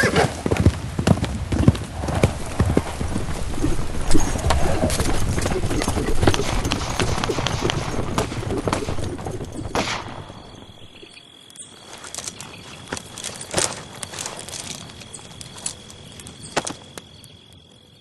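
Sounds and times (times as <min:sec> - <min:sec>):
horse hooves clip-clopping: 0:00.0 - 0:11.1, 0:11.8 - 0:17.7.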